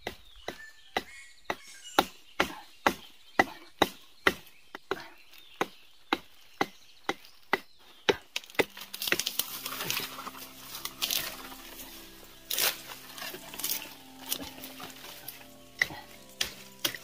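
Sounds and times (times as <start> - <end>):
digging stick striking ground: 0.0 - 17.0.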